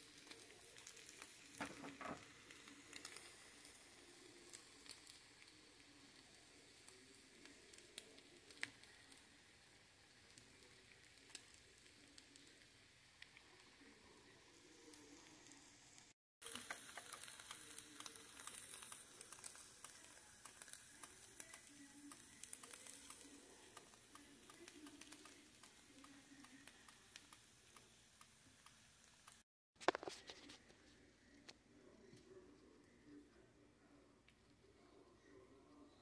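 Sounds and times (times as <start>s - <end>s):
faint sizzling in a pan: 0.0s - 36.0s.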